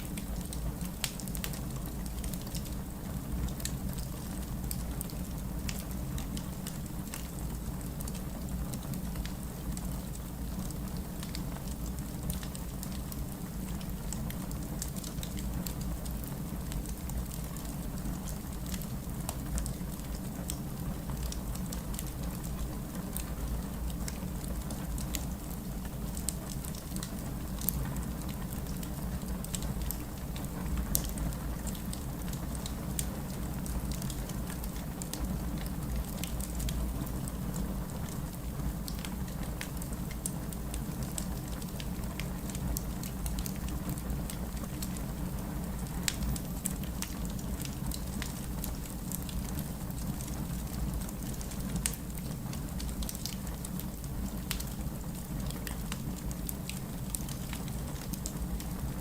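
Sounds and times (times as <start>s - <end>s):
fireplace crackling and popping: 0.0s - 59.0s
rain pattering: 0.0s - 59.0s.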